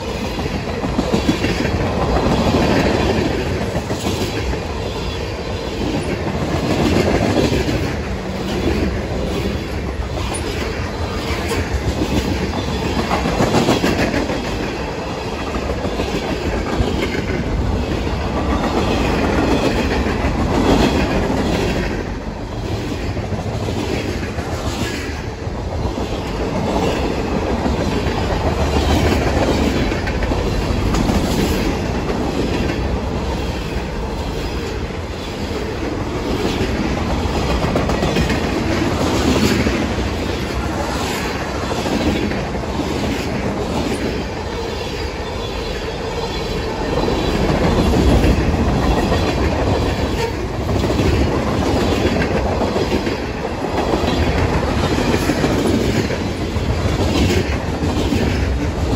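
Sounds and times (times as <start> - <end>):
freight train rumbling past: 0.0 - 58.9.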